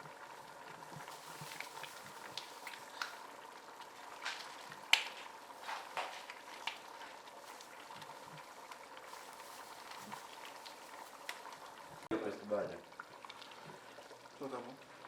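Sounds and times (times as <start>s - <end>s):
stew bubbling and sputtering: 0.0s - 15.0s.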